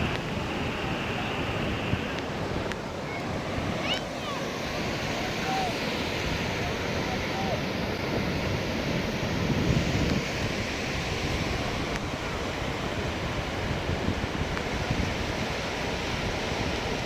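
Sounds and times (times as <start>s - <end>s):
sea surf on beach: 0.0s - 17.0s
wind rumbling on microphone: 0.0s - 17.0s.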